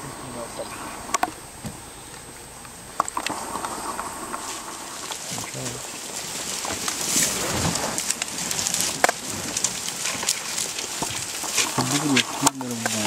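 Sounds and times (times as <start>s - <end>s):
leaves rustling: 0.0s - 13.0s
twigs crackling: 0.0s - 13.0s
branch snapping: 1.1s - 13.0s.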